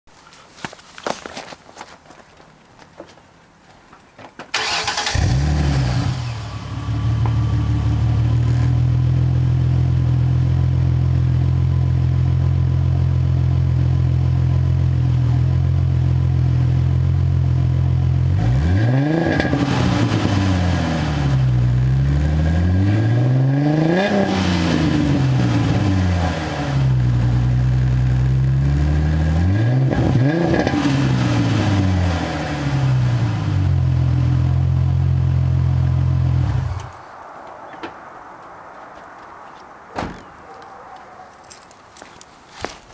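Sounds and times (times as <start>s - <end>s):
car engine idling and revving: 4.6s - 39.7s.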